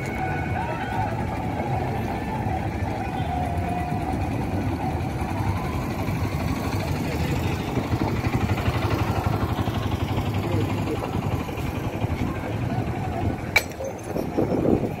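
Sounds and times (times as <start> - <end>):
small engine idling: 1.2 - 15.0.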